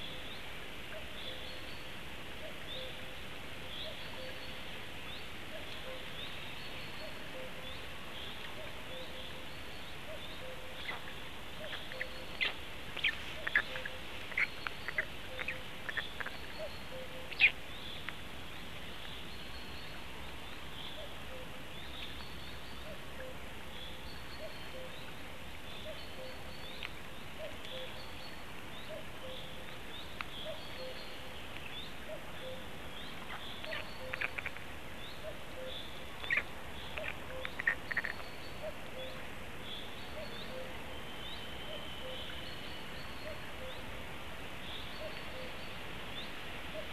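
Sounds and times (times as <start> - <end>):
low repeated bird notes: 0.0 - 46.9.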